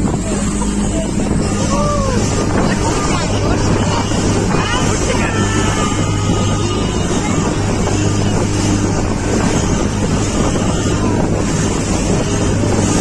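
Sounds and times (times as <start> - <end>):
motorboat engine humming: 0.0 - 13.0
water rushing past hull: 0.0 - 13.0
wind buffeting microphone: 0.0 - 13.0.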